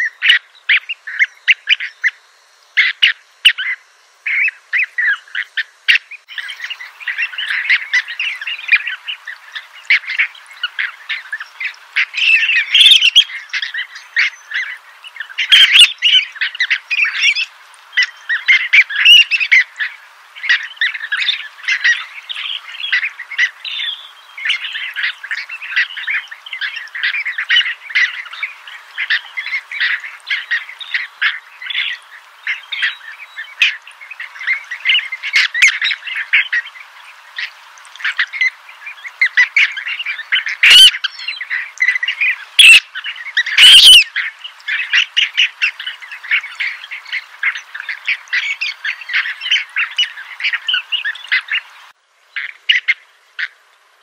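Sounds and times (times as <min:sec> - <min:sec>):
many birds calling: 0:00.0 - 0:53.6.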